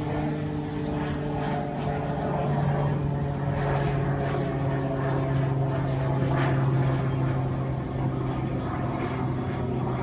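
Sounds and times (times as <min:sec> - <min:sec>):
propeller airplane engine drone: 0:00.0 - 0:10.0.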